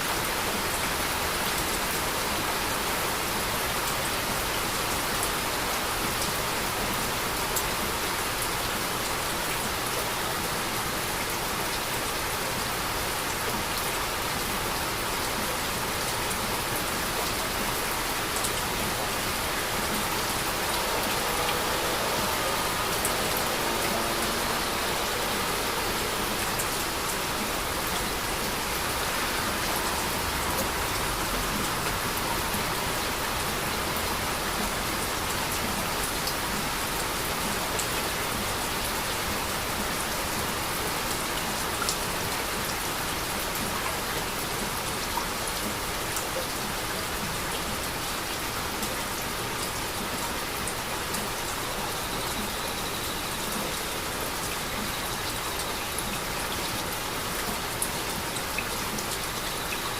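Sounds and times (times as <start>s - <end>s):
heavy rain hissing: 0.0s - 59.4s.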